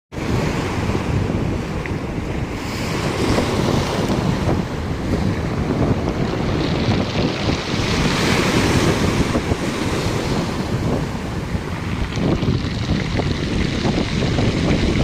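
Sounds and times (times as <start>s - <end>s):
wind rumbling on microphone: 0.1s - 15.0s
sea waves washing onto shore: 0.2s - 15.0s.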